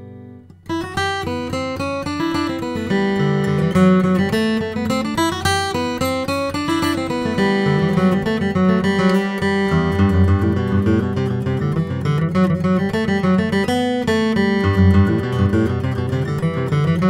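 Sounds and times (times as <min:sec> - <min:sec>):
acoustic guitar picked notes and chords: 0:00.0 - 0:17.0.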